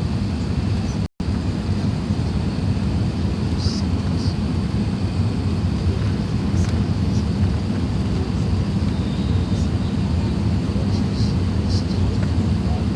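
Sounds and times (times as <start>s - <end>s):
airliner cabin engine rumble: 0.0s - 12.9s.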